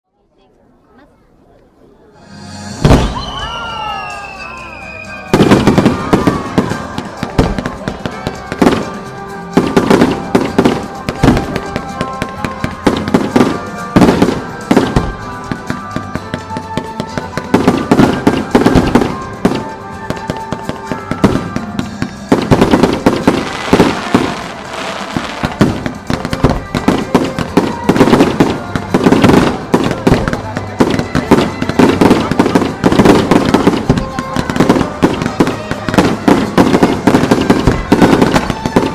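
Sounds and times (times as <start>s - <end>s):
music: 2.0s - 38.9s
fireworks booming and crackling: 2.8s - 38.9s.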